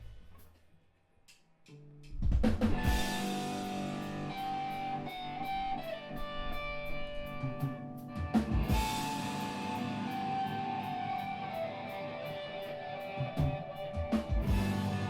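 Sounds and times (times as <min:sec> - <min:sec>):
steady cymbal beat: 0:02.3 - 0:15.0
live rock band playing: 0:02.6 - 0:15.0.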